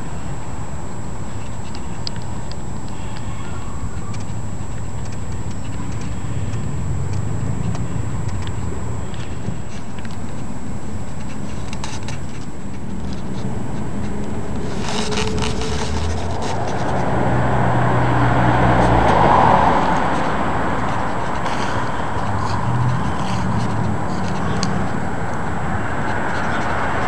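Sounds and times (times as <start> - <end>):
low engine drone: 0.0 - 27.0.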